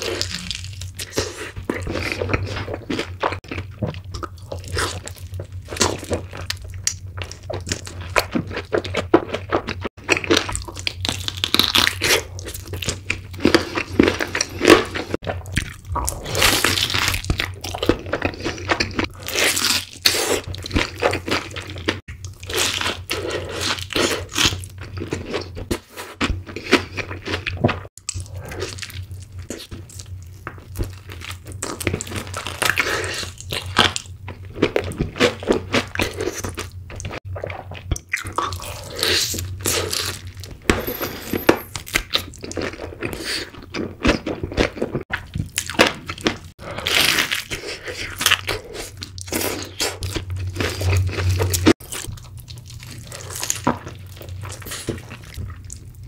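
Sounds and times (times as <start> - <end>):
crunching and chewing fried chicken: 0.0 - 56.0.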